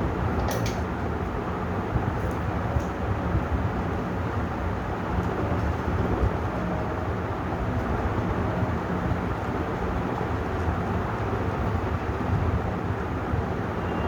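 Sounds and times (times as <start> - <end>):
ceiling fan running: 0.0 - 14.0.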